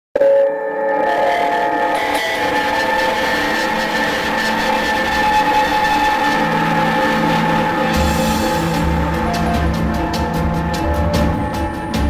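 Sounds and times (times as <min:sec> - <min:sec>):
droning held tones: 0:00.6 - 0:12.0.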